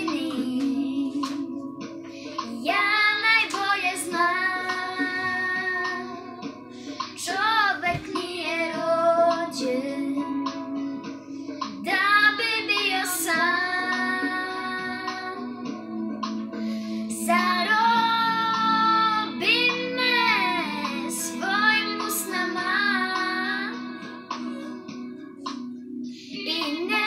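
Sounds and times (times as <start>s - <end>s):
girl singing a slow song: 0.0s - 27.0s.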